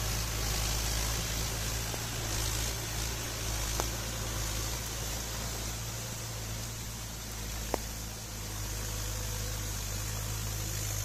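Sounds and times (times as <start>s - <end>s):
even hiss: 0.0s - 11.0s
rotavator churning mud: 0.0s - 11.0s
tractor diesel engine under load: 0.0s - 11.0s.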